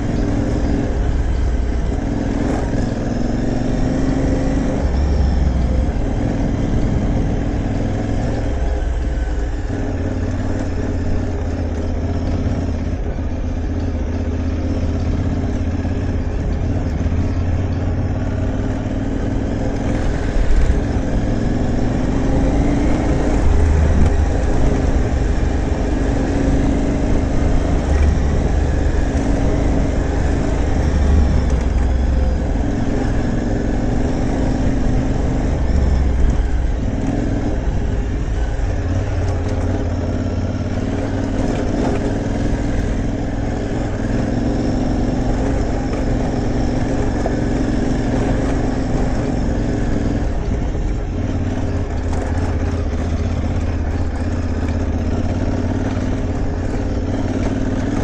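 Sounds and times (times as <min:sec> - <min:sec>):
constant rushing noise: 0:00.0 - 0:58.0
motorcycle engine running: 0:00.0 - 0:58.0.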